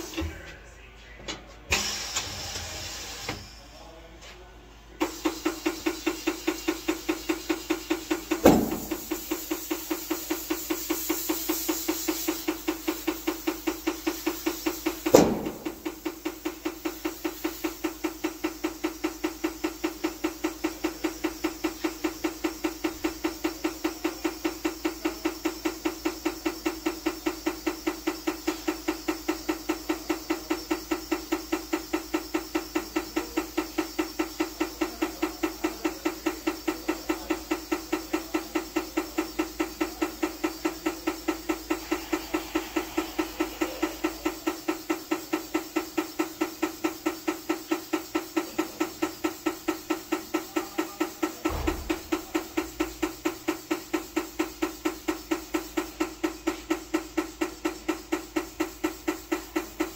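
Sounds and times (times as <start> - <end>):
steady hum: 0.0 - 59.9
air pulsing into tire: 1.7 - 3.7, 5.0 - 59.9
tire bead popping: 5.0 - 59.9.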